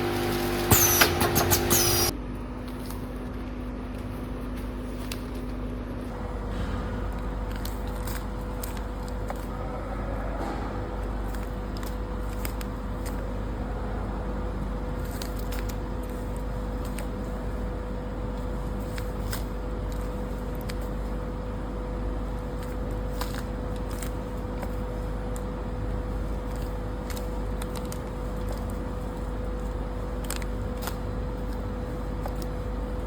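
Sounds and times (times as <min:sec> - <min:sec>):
packaging machine humming: 0:00.0 - 0:03.3, 0:06.1 - 0:33.0.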